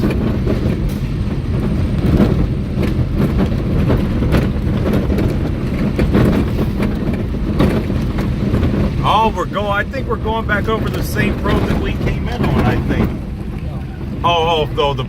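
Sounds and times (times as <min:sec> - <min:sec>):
knocks from road surface: 0:00.0 - 0:14.2
engine and tyre rumble: 0:00.0 - 0:15.0.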